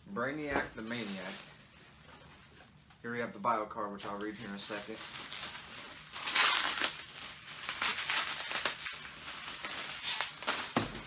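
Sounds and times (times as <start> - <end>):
bubble wrap crinkling: 0.2 - 3.4, 4.1 - 11.0.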